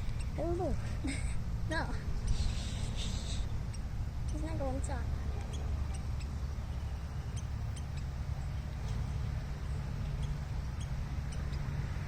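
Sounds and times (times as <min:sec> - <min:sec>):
small bird chipping: 0:00.0 - 0:12.0.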